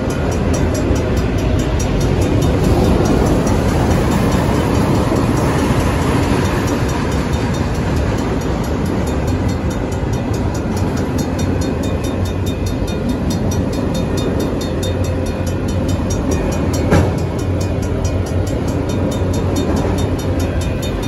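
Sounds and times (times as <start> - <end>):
crossing bell ringing: 0.0 - 21.0
train cars rolling on rails: 0.0 - 21.0.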